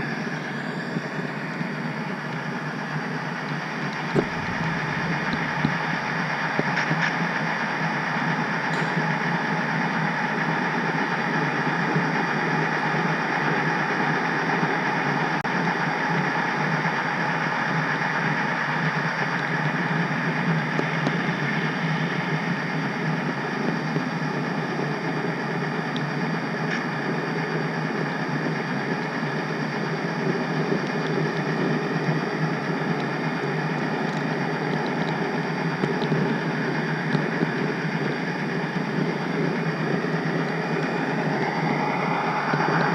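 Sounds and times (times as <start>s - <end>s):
model train rolling on track: 0.0s - 42.9s.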